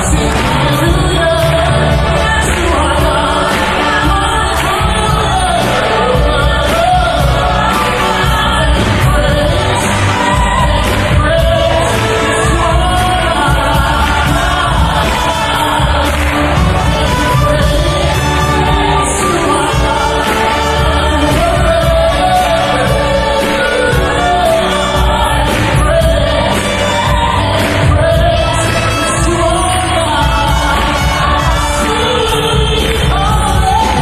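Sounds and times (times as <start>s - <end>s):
large choir singing: 0.0s - 34.0s
symphony orchestra: 0.0s - 34.0s.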